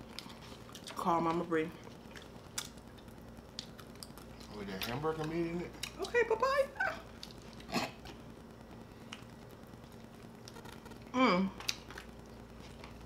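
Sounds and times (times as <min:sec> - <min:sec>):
chewing with wet clicks and smacks: 0:00.0 - 0:06.2, 0:07.1 - 0:10.7, 0:11.6 - 0:13.0.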